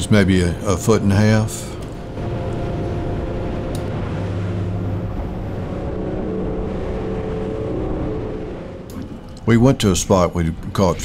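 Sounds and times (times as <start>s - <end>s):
outboard engine droning: 0.0s - 11.0s
wind and water rushing: 0.0s - 11.0s.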